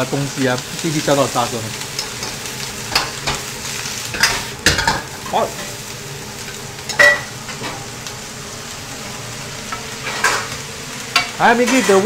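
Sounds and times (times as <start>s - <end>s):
cabbage sizzling in a wok: 0.0s - 12.0s.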